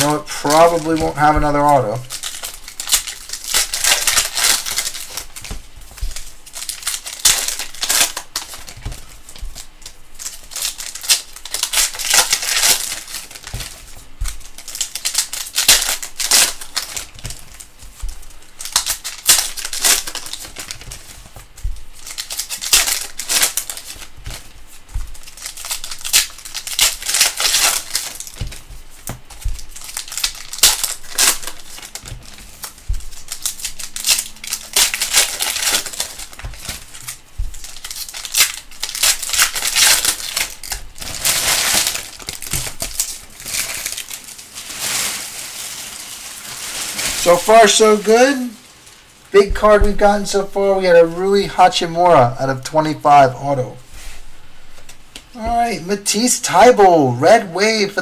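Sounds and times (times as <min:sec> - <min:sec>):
plastic wrappers crinkling and tearing: 0:00.0 - 0:57.0.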